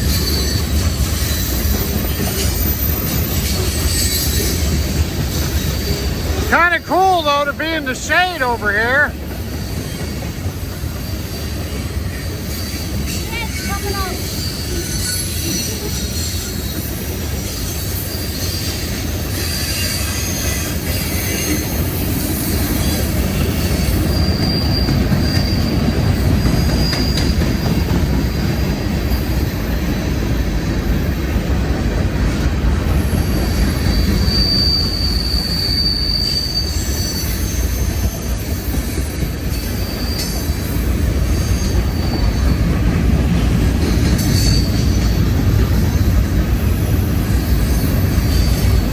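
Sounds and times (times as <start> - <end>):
high wheel squeals: 0.0 - 31.4, 32.8 - 48.9
train wheels rumbling on rails: 0.0 - 48.9.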